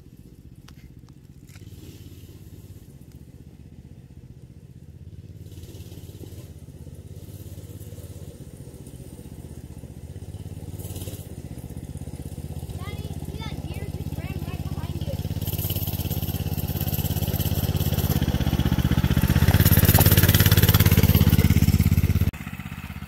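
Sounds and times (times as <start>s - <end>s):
mini bike engine running: 0.0s - 23.0s.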